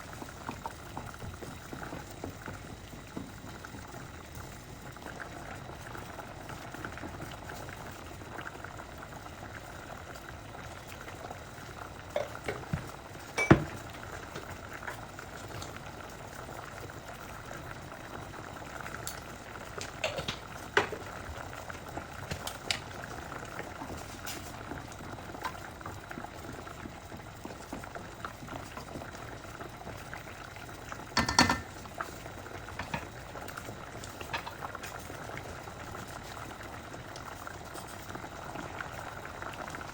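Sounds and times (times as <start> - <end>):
risotto bubbling in a pan: 0.0 - 39.9.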